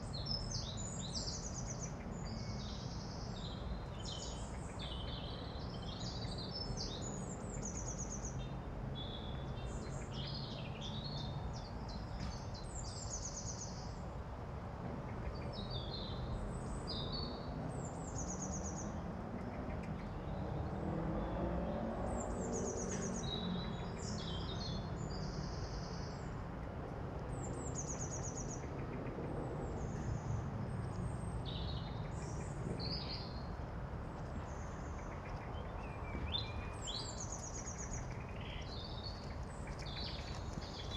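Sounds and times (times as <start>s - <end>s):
birds calling and singing: 0.0s - 14.0s, 15.1s - 26.4s, 27.2s - 33.6s, 34.2s - 40.9s.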